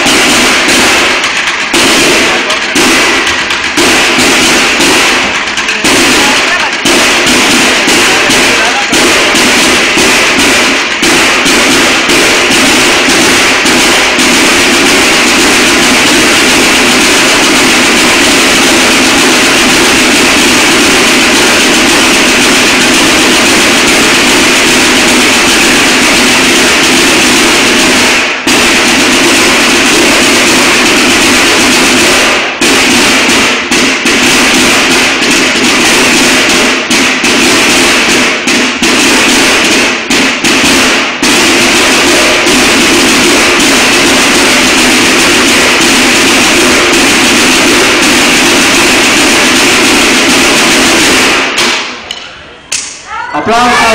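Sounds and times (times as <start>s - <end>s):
snare drum line playing: 0.0s - 52.2s.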